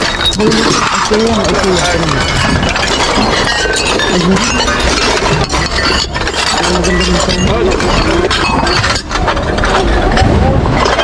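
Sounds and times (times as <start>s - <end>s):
crowd voices: 0.0s - 11.0s
dishes and glassware clinking: 0.0s - 11.0s.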